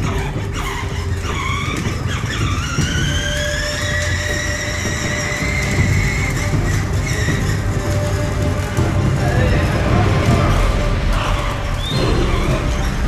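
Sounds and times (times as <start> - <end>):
toy electric motor whining: 0.0 - 13.0.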